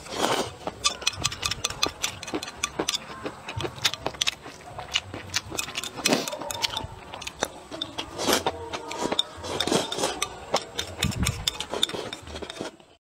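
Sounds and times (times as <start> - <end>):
chewing and eating noises: 0.0 - 13.0
chopsticks scraping ceramic plate: 0.0 - 13.0.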